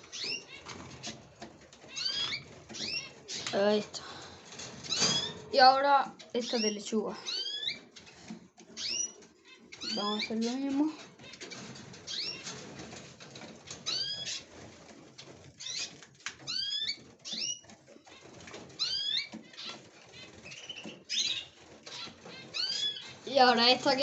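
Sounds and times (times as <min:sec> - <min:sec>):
small birds calling: 0:00.0 - 0:24.0.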